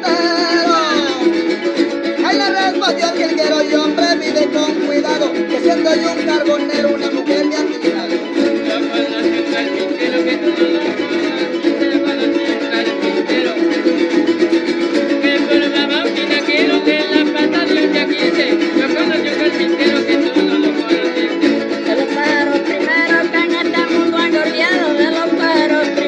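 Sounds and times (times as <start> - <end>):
plucked harp melody: 0.0 - 26.0
string ensemble strumming: 0.0 - 26.0.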